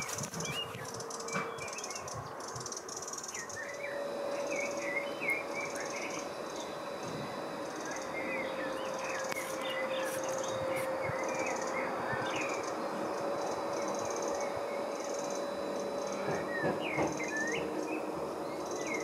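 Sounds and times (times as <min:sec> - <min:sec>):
faint steady drone: 0:00.0 - 0:19.0
outdoor background hiss: 0:00.0 - 0:19.0
songbirds chirping: 0:00.0 - 0:19.0.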